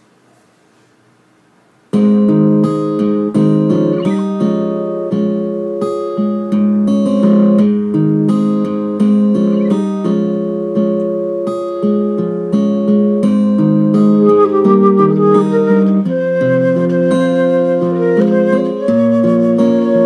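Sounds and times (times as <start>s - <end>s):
faint room noise: 0.0s - 20.0s
acoustic guitar strumming chords: 1.9s - 20.0s.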